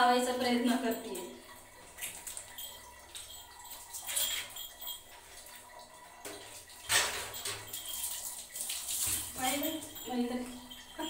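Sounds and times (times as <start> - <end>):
water sloshing and splashing: 0.9 - 11.0.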